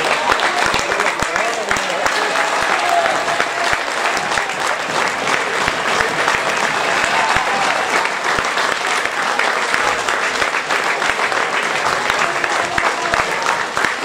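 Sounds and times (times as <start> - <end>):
crowd clapping: 0.0 - 14.0.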